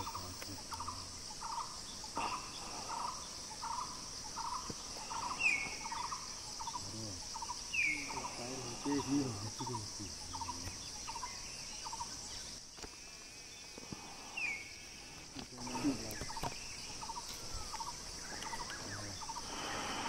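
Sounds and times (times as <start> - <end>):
birds chirping: 0.0 - 20.0
insect drone: 0.0 - 20.0.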